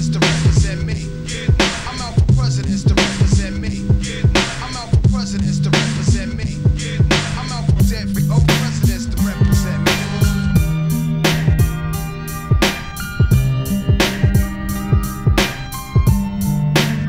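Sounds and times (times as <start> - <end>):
drum beat over deep bass: 0.0 - 17.0.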